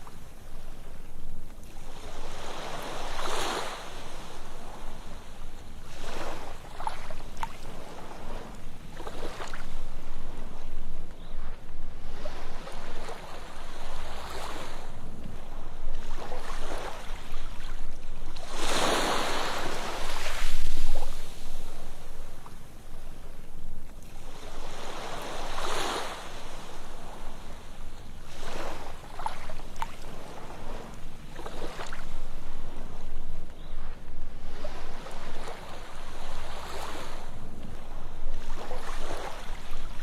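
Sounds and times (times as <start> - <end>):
ocean waves breaking on beach: 0.0 - 40.0.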